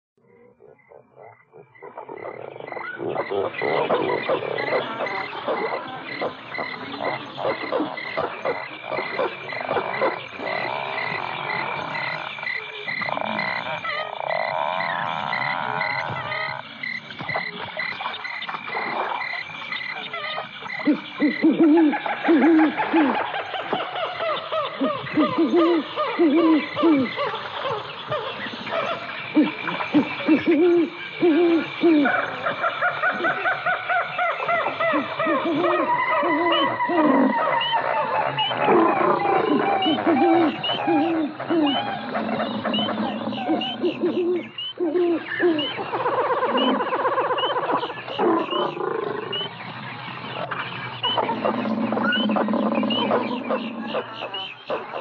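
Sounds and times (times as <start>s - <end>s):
frogs croaking: 0.2s - 55.0s
low hooting croaks: 0.2s - 55.0s
pulsing high insect chirp: 0.2s - 55.0s.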